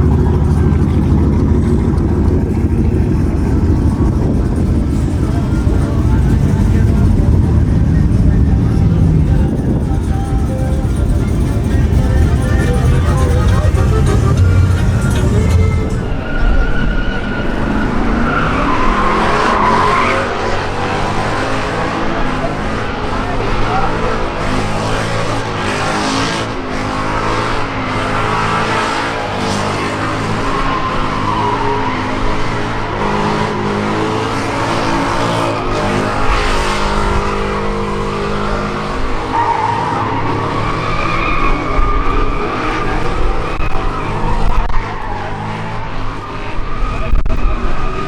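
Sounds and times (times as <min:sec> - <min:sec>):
tires squealing on pavement: 0:00.0 - 0:48.0
truck engine running hard: 0:00.0 - 0:48.0.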